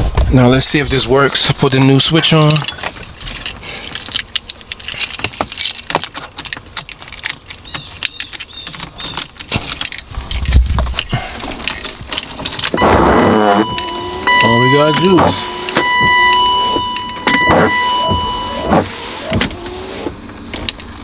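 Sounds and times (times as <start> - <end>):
car keys jangling: 2.1 - 21.0.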